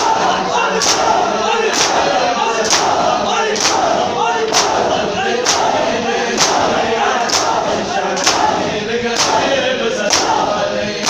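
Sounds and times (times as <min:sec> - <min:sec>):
crowd chanting: 0:00.0 - 0:11.0
crowd slapping chests: 0:00.0 - 0:11.0.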